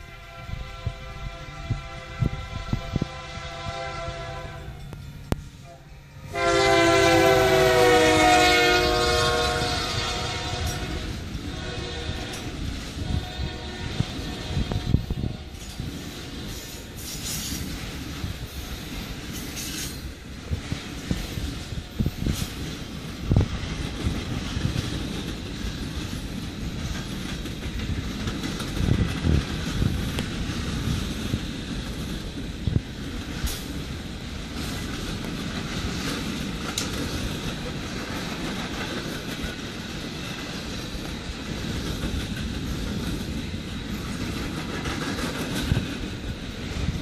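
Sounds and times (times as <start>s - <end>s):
steel wheels rumbling on rail: 0.0s - 47.0s.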